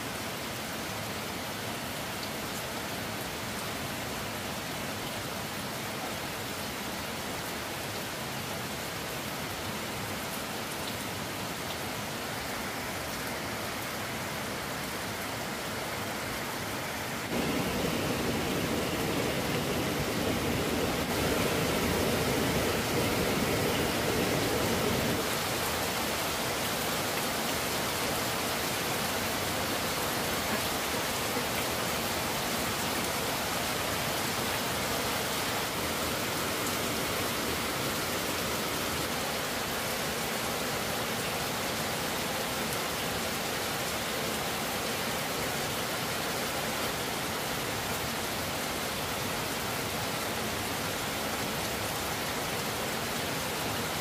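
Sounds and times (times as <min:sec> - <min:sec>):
heavy water rushing: 0:04.3 - 0:54.0.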